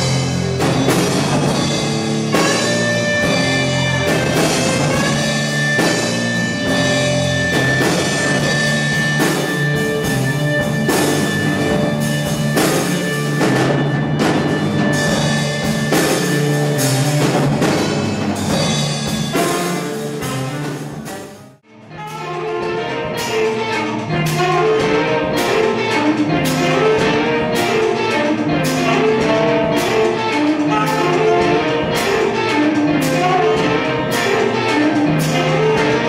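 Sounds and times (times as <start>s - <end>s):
live rock band playing: 0.0s - 36.0s.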